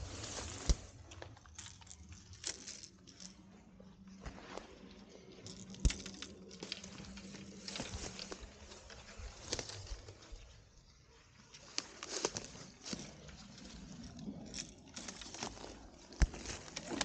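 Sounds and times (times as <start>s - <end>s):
branches brushing past: 0.0s - 3.4s, 4.1s - 10.6s, 11.6s - 17.0s
leaves and twigs rustling: 0.0s - 17.0s.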